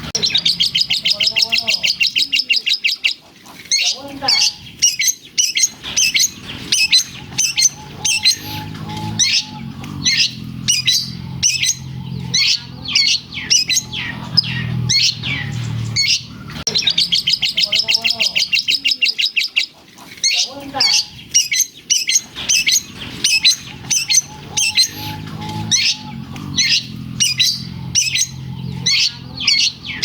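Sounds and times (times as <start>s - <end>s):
shrike singing sharp chirps: 3.7s - 19.6s, 20.2s - 30.0s.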